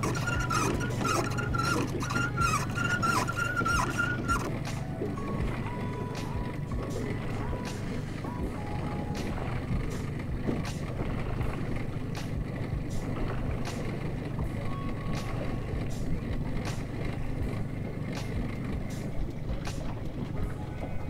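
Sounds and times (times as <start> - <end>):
boat motor humming: 0.0 - 21.0.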